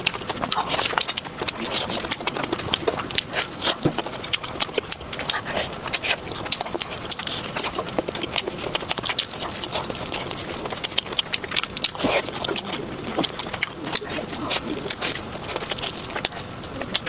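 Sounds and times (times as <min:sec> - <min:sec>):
person chewing and smacking: 0:00.0 - 0:17.0.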